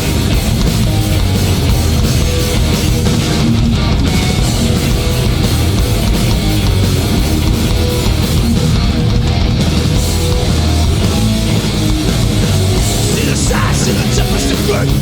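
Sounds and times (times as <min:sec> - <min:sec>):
punk band playing live: 0:00.0 - 0:15.0.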